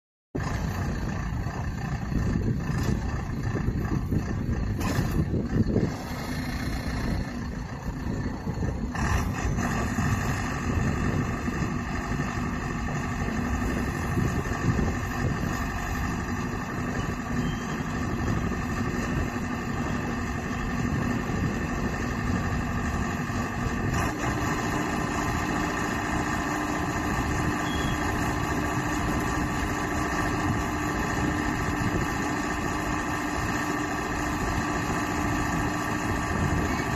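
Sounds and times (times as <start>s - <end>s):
pile driver engine and hydraulics: 0.4s - 36.9s.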